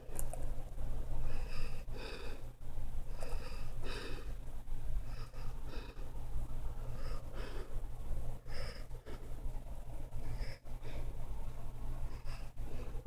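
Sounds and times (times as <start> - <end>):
steady low hum: 0.0 - 13.0
person breathing close: 1.2 - 4.4, 5.0 - 9.5, 10.1 - 13.0.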